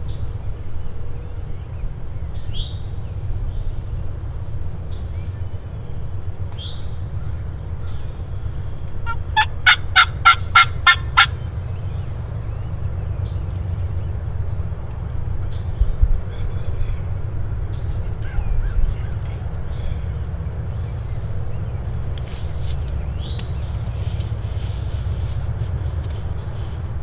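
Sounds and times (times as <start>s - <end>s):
faint songbird chirps: 0.0s - 27.0s
low steady rumble: 0.0s - 27.0s
wild turkey calling: 2.4s - 27.0s.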